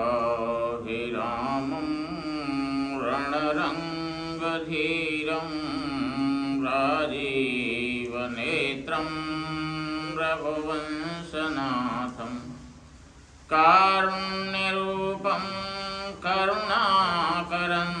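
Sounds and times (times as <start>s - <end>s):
mantra chanting: 0.0s - 12.8s, 13.4s - 18.0s.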